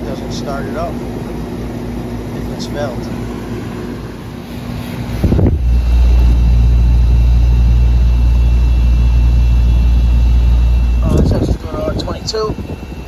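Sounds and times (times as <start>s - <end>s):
compressor running hum: 0.0s - 13.0s.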